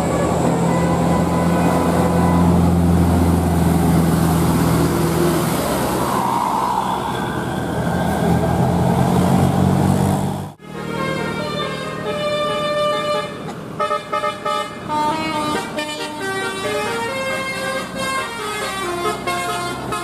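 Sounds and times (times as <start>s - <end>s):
bus diesel engine humming: 0.0s - 20.0s
road noise: 0.0s - 20.0s.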